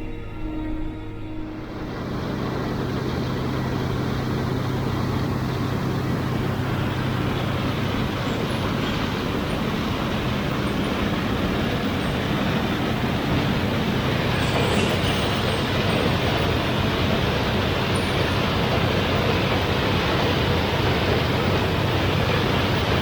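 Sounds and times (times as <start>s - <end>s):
heavy farm machinery running: 0.0s - 23.0s.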